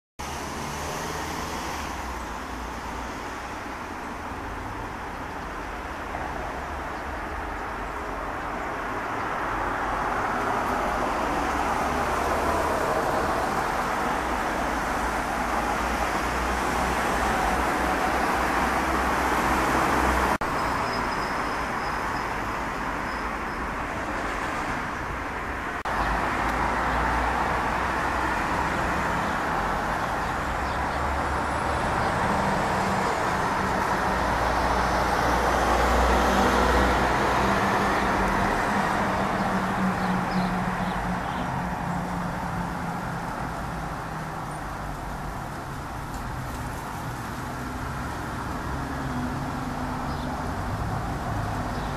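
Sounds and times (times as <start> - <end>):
cars going by: 0.2 - 51.9.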